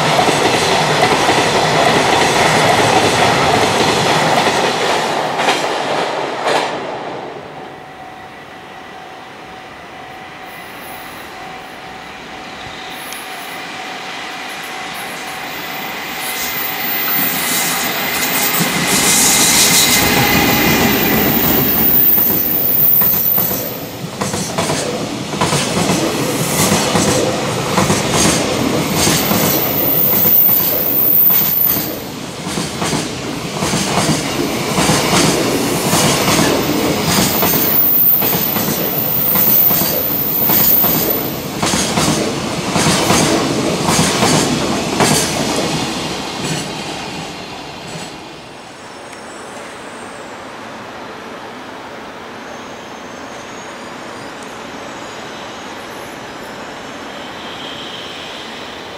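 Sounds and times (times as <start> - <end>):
electric locomotive whine: 0.0 - 58.9.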